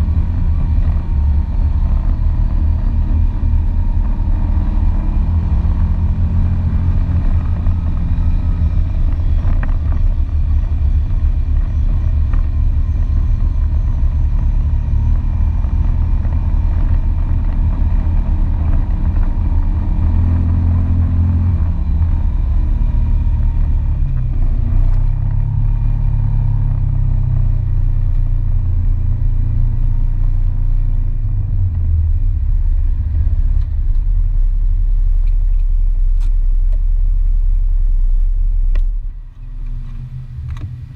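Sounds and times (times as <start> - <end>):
atv engine droning: 0.0 - 40.9.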